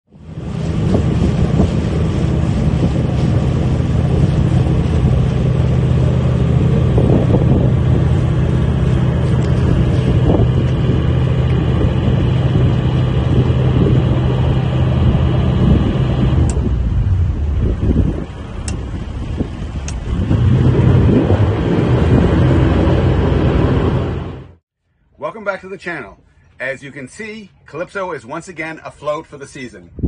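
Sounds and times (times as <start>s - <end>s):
rush of wind and water: 0.1s - 24.6s
boat engine hum: 0.1s - 27.8s.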